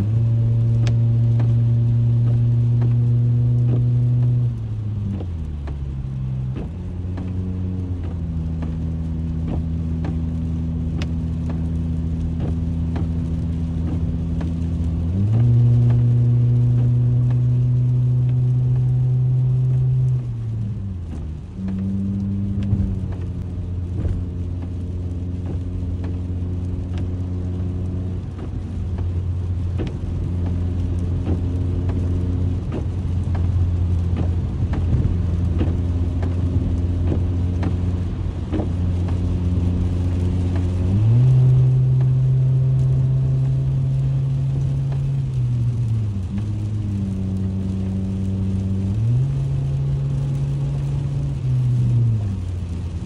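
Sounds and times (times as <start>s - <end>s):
car engine drone: 0.0s - 53.0s
tyre and rain noise: 0.0s - 53.0s.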